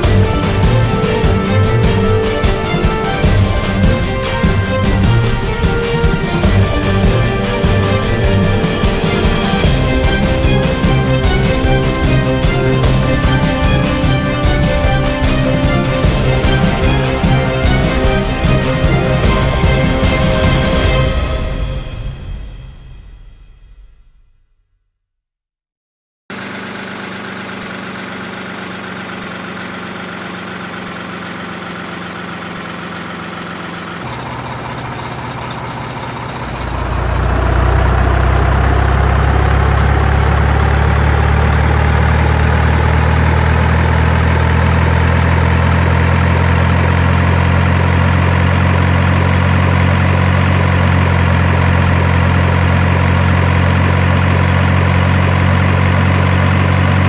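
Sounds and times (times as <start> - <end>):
heavy engine running: 0.0 - 23.0, 26.3 - 57.0.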